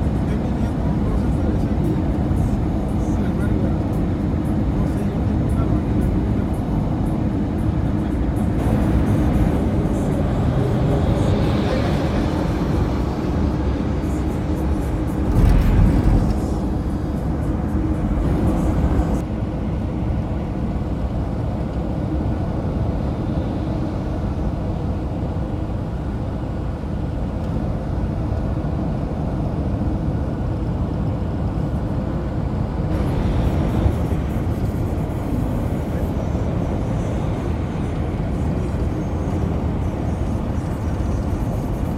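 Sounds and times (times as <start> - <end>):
car driving at highway speed: 0.0 - 41.9.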